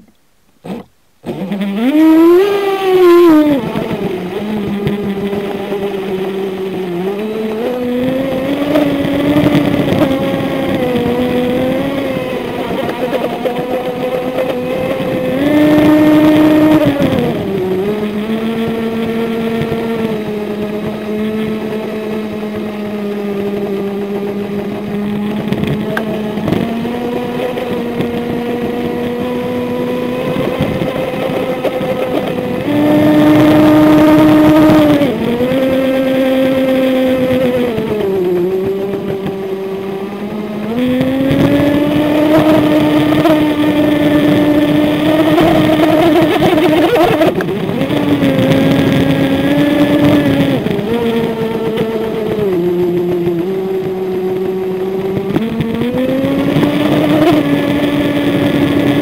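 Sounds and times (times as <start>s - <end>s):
electric motor whining: 0.6s - 59.0s.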